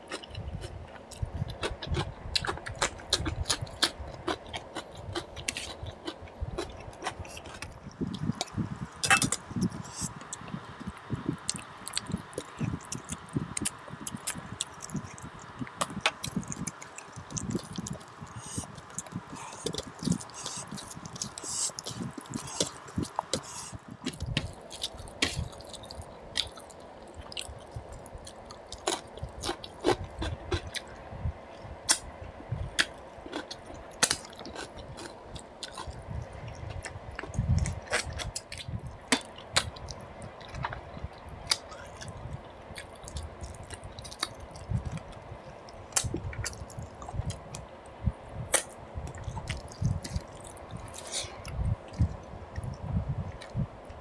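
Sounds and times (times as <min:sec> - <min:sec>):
wet chewing and lip-smacking: 0:00.0 - 0:08.6, 0:09.2 - 0:30.9, 0:32.8 - 0:47.7, 0:48.4 - 0:53.6.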